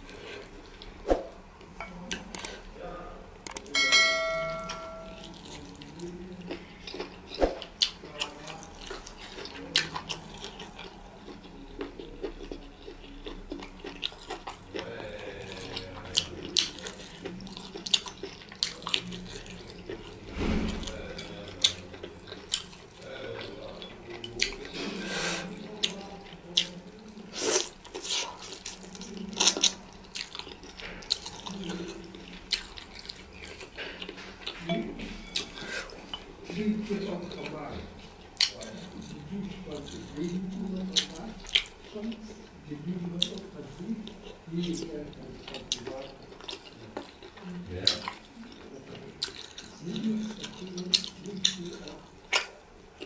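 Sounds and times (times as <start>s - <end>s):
biting and chewing: 4.6s - 53.0s.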